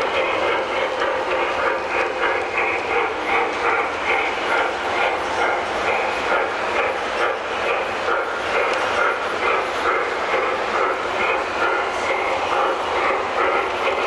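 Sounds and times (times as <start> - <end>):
model locomotive chuffing: 0.0 - 14.0
wheels rumbling on track: 0.0 - 14.0.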